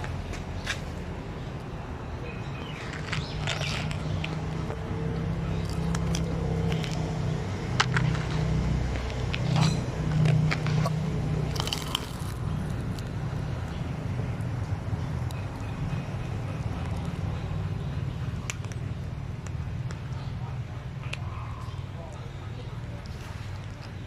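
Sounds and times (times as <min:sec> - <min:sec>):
cat chewing and crunching food: 0:00.0 - 0:24.0.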